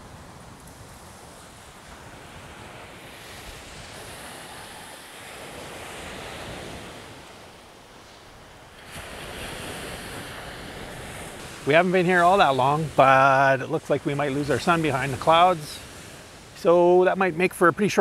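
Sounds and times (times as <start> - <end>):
surf washing onto beach: 0.0 - 18.0
wind rumbling on microphone: 0.0 - 18.0.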